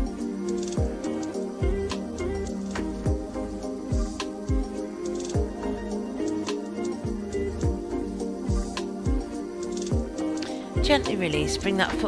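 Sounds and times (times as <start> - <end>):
sustained background music tones: 0.0 - 12.0.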